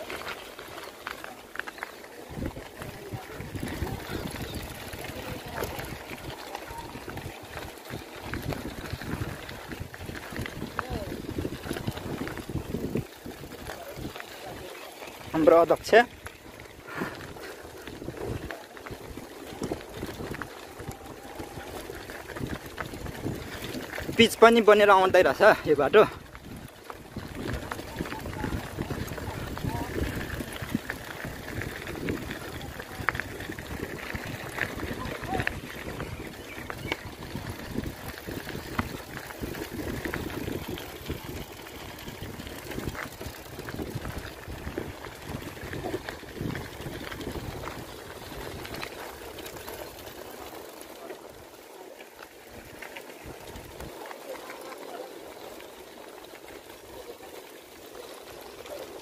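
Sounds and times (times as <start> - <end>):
bike tyres crunching on gravel: 0.0 - 59.0
wind buffeting microphone: 2.3 - 50.2.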